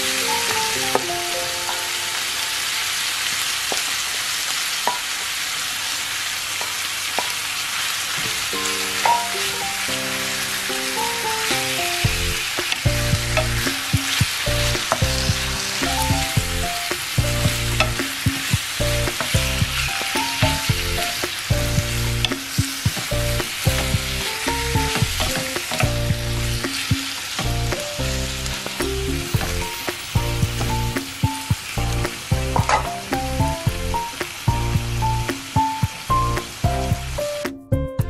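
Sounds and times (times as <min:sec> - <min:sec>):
soft background music: 0:00.0 - 0:03.2, 0:08.6 - 0:38.0
meat and onions sizzling in a pan: 0:00.0 - 0:37.4.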